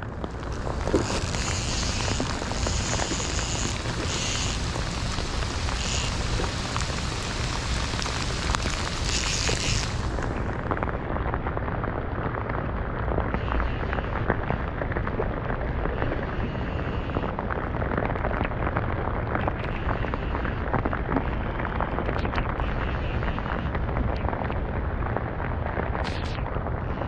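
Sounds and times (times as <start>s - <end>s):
heavy rain on a rain suit: 0.0s - 27.0s.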